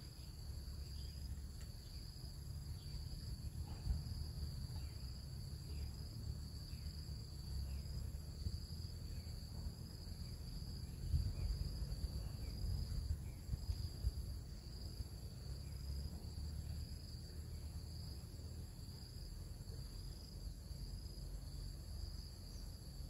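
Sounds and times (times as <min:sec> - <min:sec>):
crickets trilling: 0:00.0 - 0:23.0
low rumble with bumps: 0:00.4 - 0:19.3.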